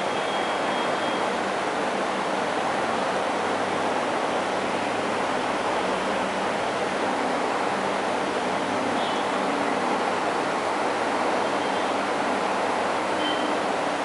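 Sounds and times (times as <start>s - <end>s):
aquarium water rushing: 0.0s - 14.0s.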